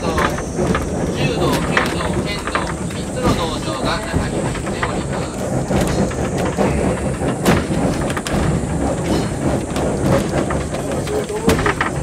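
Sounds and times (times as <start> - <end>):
rattling clicks and knocks: 0.0 - 12.0
streetcar rumbling on track: 0.0 - 12.0.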